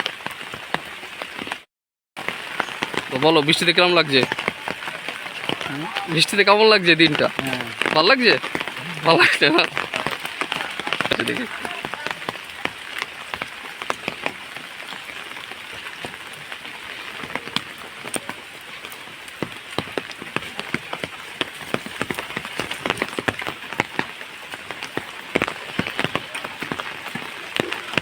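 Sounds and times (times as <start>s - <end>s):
steady rain hiss: 0.0s - 1.6s, 2.2s - 28.0s
raindrops hitting close by: 0.0s - 28.0s.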